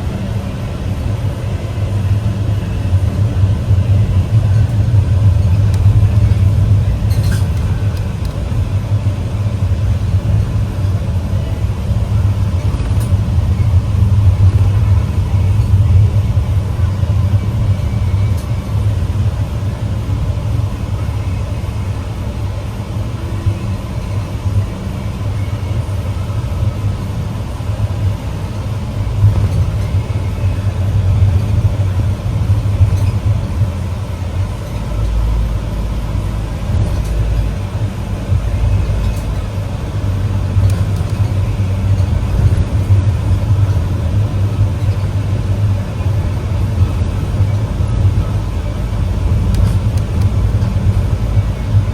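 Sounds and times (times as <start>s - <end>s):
road noise: 0.0s - 51.9s
vehicle engine rumble: 0.0s - 51.9s.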